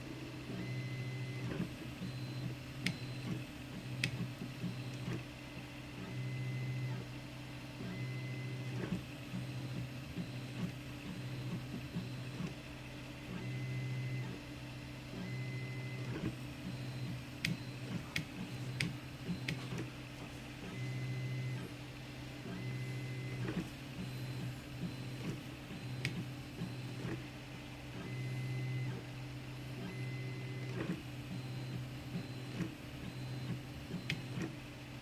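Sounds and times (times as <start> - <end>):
printer stepper motors whining: 0.0 - 35.0.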